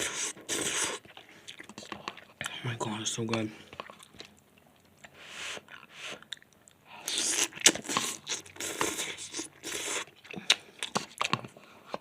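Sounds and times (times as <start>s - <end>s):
person chewing noodles: 0.0s - 2.6s, 3.7s - 12.0s.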